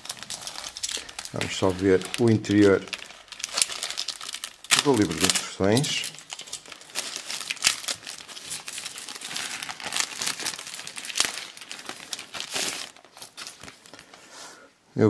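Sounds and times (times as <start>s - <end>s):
plastic wrapping being pulled: 0.0s - 14.2s
plastic bags crinkling: 0.0s - 14.3s.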